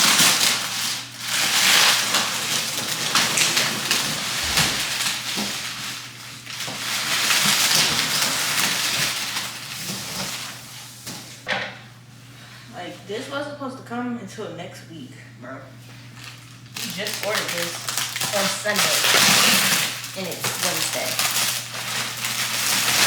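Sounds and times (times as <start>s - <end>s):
rustling and crinkling: 0.0s - 11.5s, 15.9s - 23.0s.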